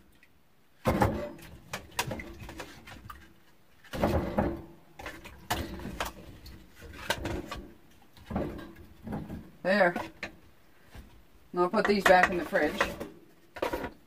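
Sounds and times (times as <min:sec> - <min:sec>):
knocks and clatter of handling: 0:00.8 - 0:11.2, 0:11.8 - 0:14.0.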